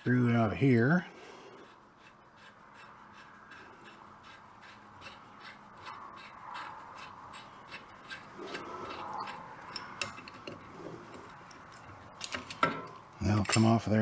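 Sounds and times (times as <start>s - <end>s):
light clicking of nut spinning: 1.6s - 14.0s.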